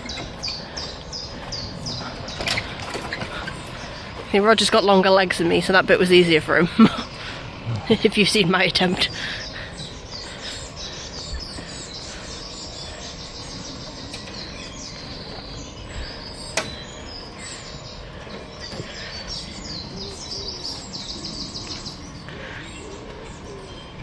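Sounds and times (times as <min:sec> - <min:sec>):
outdoor background noise: 0:00.0 - 0:24.0
small birds chirping: 0:00.0 - 0:24.0.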